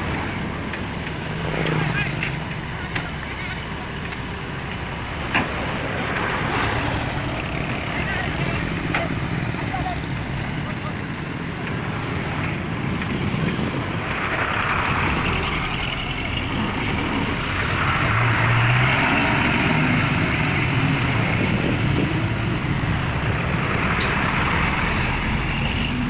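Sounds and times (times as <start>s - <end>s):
diesel engine rumble: 0.0s - 26.0s.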